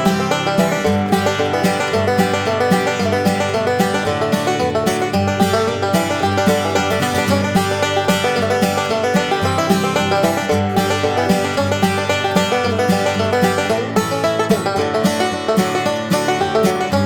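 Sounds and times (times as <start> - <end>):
upbeat bluegrass music with banjo: 0.0 - 17.0.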